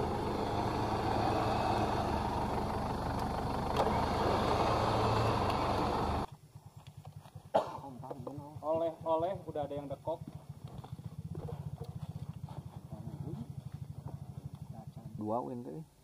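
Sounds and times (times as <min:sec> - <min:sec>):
off-road vehicle engine running: 0:00.0 - 0:07.5, 0:08.1 - 0:15.4.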